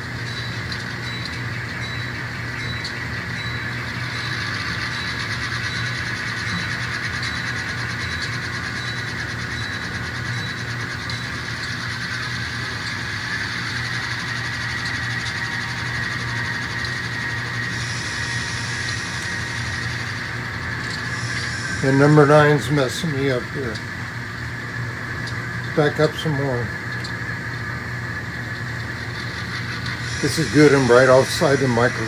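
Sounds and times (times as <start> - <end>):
diesel engine sound from small speakers: 0.0 - 32.0.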